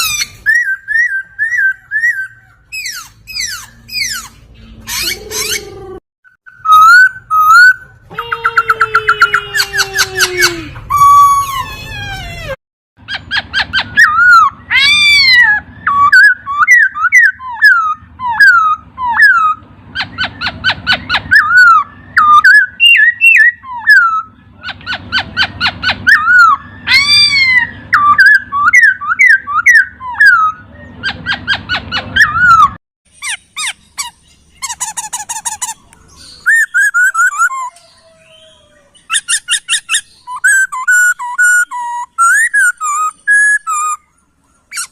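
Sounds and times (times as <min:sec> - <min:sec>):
laughingthrush singing whistled phrases: 0:00.0 - 0:11.7, 0:13.1 - 0:44.9.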